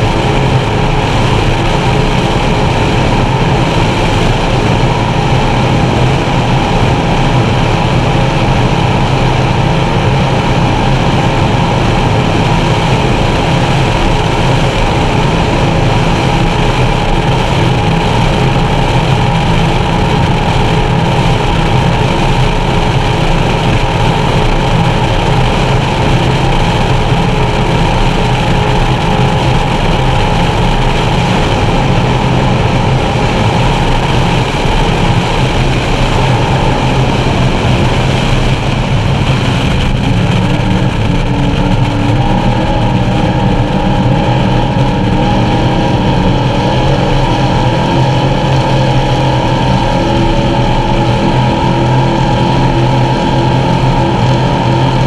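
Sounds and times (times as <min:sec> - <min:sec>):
boat engines running: 0:00.0 - 0:55.0
wind and water rushing: 0:00.0 - 0:55.0.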